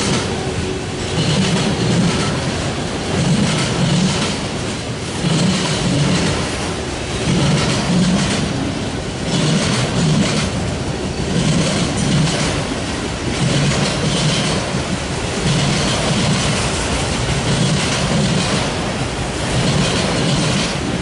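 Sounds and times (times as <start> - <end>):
train wheels rumbling on rail: 0.0 - 21.0
wheels clickety-clack: 0.0 - 21.0.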